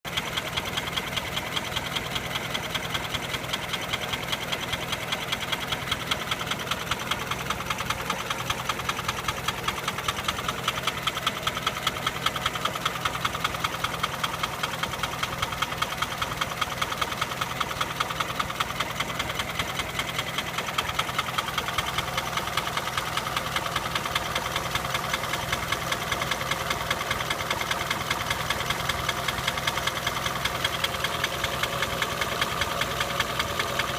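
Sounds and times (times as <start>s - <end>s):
car engine running with knock: 0.1s - 33.9s.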